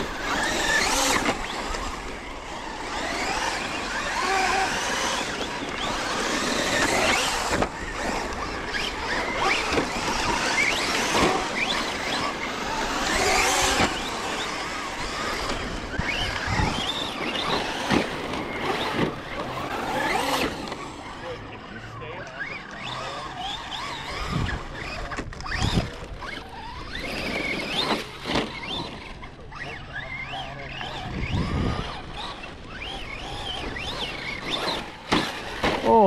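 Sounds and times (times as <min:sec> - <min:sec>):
rc truck motors whining: 0:00.0 - 0:36.0.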